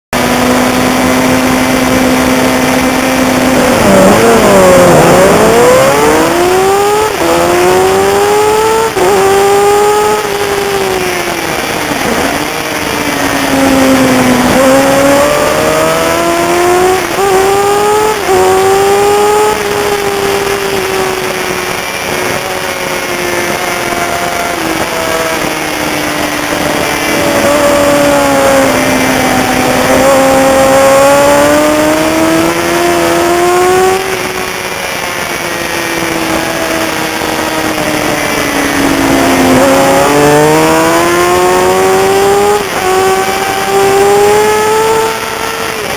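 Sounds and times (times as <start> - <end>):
racing motorcycle engine revving: 0.1 - 45.9
wind and road noise: 0.1 - 45.9.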